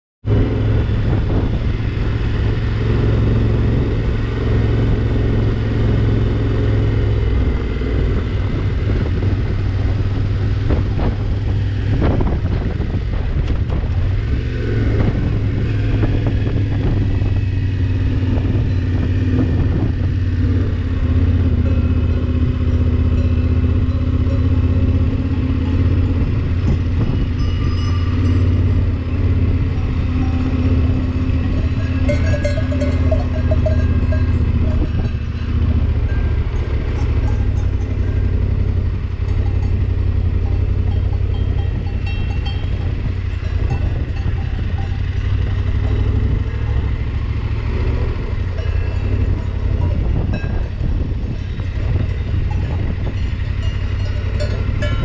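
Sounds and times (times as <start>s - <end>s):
motorcycle engine running: 0.2s - 55.0s.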